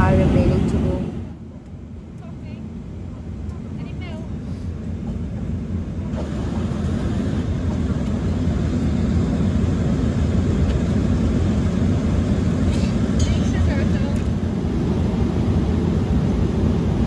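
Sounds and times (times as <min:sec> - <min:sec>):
airliner cabin drone: 0:00.0 - 0:17.0.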